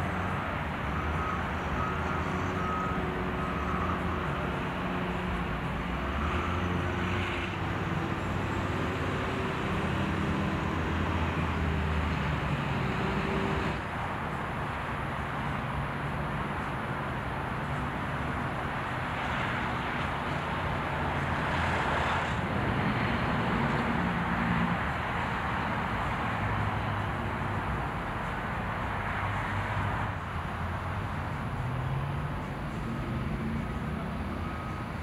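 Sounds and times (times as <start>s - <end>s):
tyre and traffic rumble: 0.0s - 35.0s.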